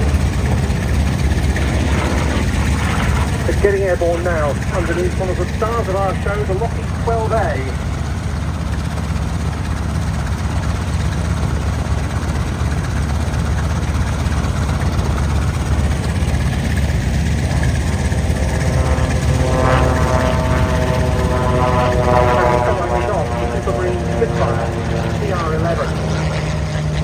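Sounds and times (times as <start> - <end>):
higher-pitched aircraft engine: 0.0 - 27.0
propeller aircraft engine drone: 0.0 - 27.0.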